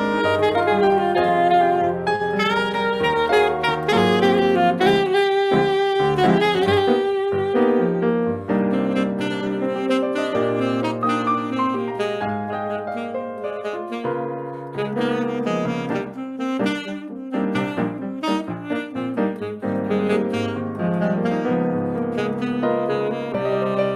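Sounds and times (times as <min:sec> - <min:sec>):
piano accompaniment: 0:00.0 - 0:23.9
saxophone melody: 0:00.0 - 0:23.9.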